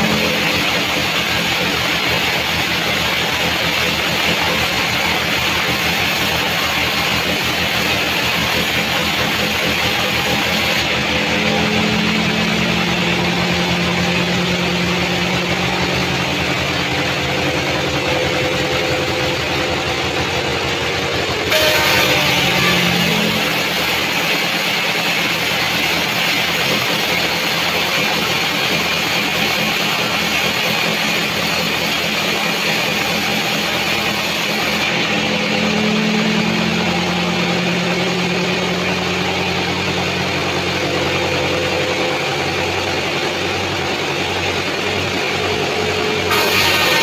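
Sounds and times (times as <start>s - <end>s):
saw blade cutting wood: 0.0s - 20.6s, 21.2s - 36.0s, 43.5s - 47.0s
sawmill machine hum: 0.0s - 47.0s.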